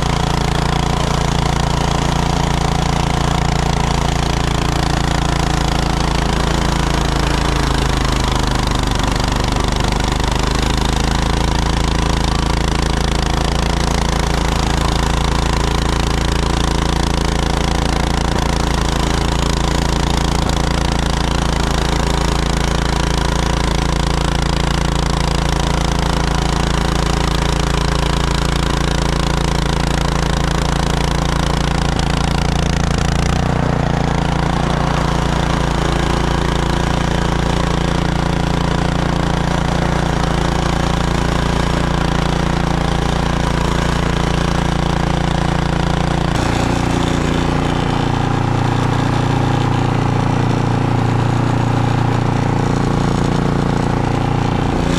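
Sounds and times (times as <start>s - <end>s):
snowblower engine running: 0.0s - 54.9s.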